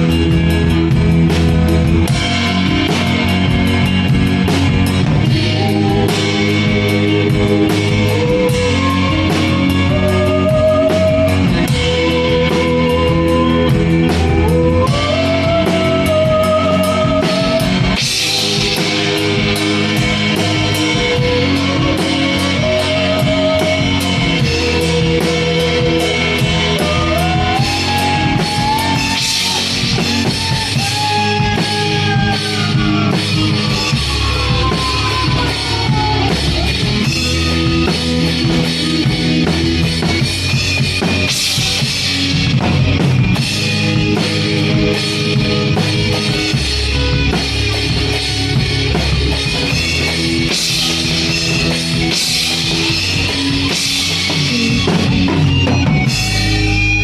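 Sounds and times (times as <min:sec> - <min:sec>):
bass guitar: 0:00.0 - 0:57.0
drum kit: 0:00.0 - 0:57.0
guitar: 0:00.0 - 0:57.0
sliding lead guitar line: 0:00.0 - 0:57.0.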